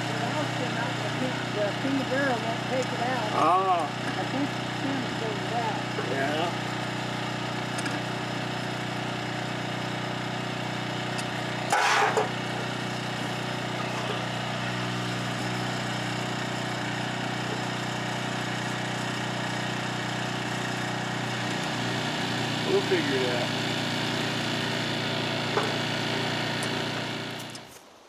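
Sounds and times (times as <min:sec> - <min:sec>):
air compressor engine running: 0:00.0 - 0:27.8.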